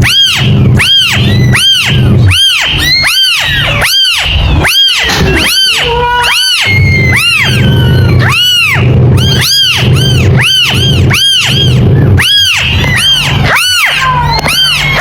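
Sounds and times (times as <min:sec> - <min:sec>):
kitten meowing: 0:00.0 - 0:15.0
low hum: 0:00.0 - 0:15.0.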